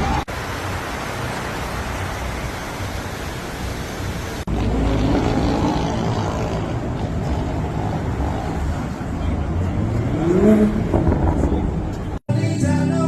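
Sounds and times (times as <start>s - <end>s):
street traffic passing: 0.0s - 12.3s.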